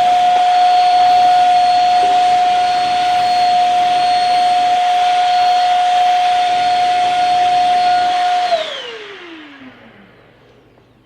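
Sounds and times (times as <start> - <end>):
stick vacuum motor whine: 0.0 - 11.0.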